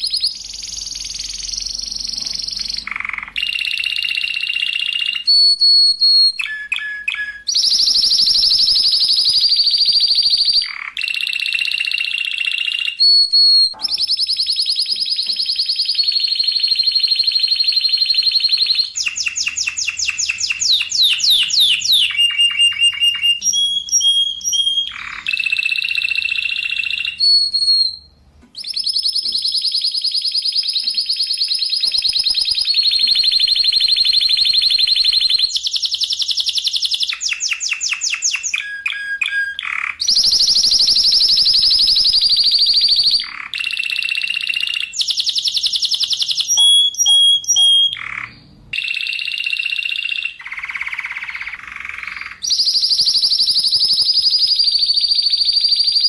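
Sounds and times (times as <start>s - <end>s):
canary singing rolling trills: 0.0s - 56.0s.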